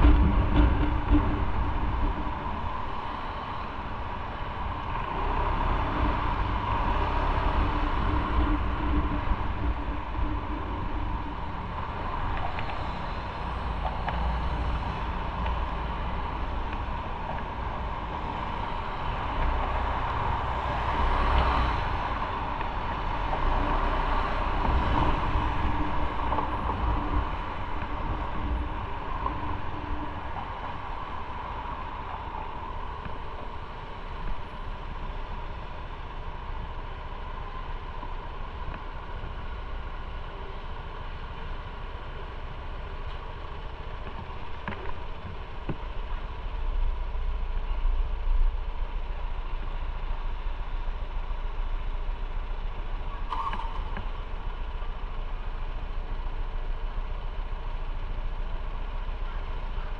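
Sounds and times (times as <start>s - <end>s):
motorcycle engine hum: 0.0s - 59.9s
road and traffic noise: 0.0s - 59.9s.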